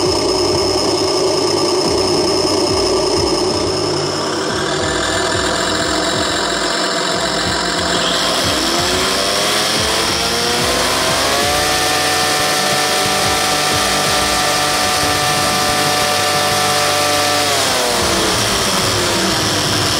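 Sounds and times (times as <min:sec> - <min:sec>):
model snow blower whirring: 0:00.0 - 0:19.9
motor whine: 0:00.0 - 0:19.9.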